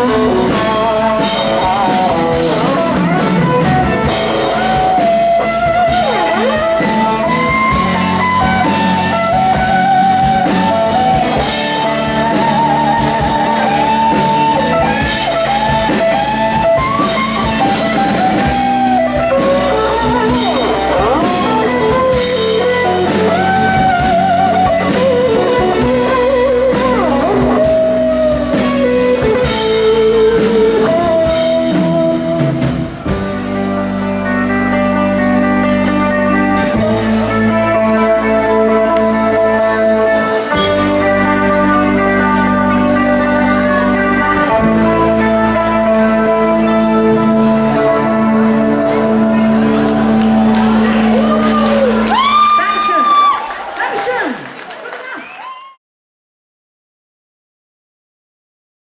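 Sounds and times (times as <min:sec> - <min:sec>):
electric guitar lead with bent notes: 0:00.0 - 0:54.2
blues-rock band playing: 0:00.0 - 0:54.7.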